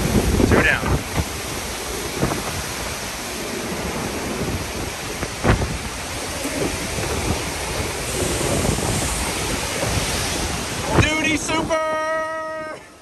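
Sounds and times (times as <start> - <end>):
heavy driving rain: 0.0 - 13.0
strong wind: 0.0 - 13.0
wind buffeting microphone: 0.0 - 13.0.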